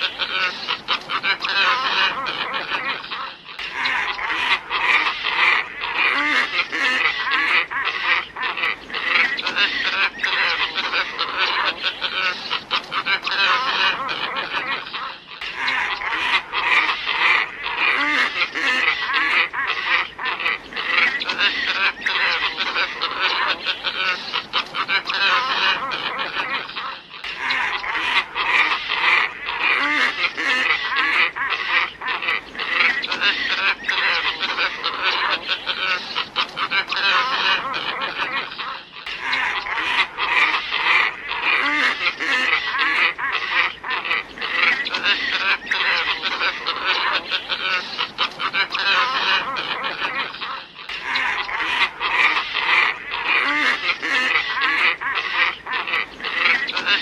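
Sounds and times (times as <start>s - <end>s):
ibis flock calls: 0.0s - 57.0s.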